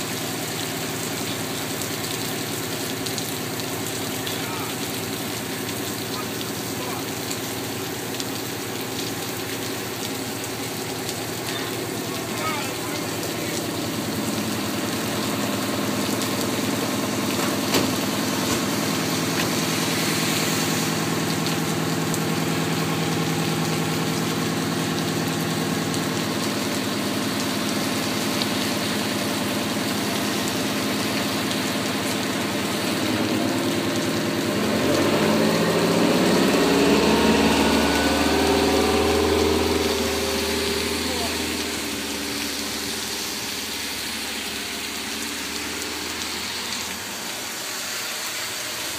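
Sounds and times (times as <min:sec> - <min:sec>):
diesel engine idling and revving: 0:00.0 - 0:48.9.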